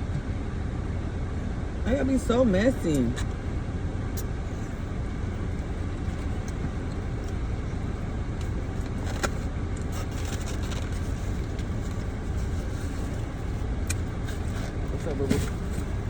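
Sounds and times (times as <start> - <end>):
low rumble inside car cabin: 0.0 - 16.0.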